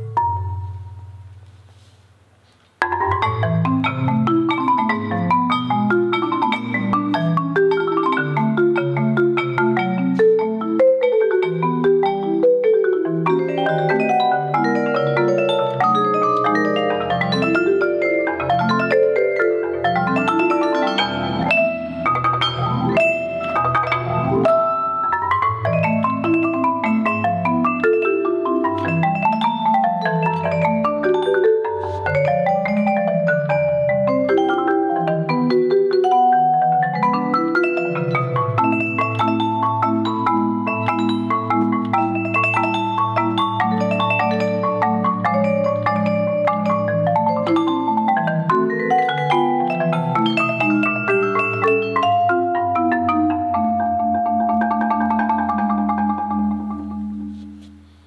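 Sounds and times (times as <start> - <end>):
marimba tango passage: 0.0 - 58.0.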